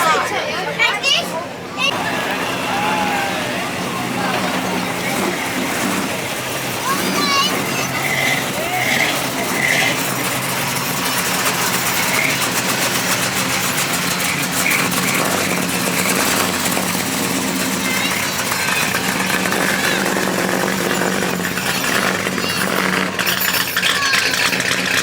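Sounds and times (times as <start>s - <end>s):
crowd chatter: 0.0s - 25.0s
car engine idling: 0.8s - 25.0s.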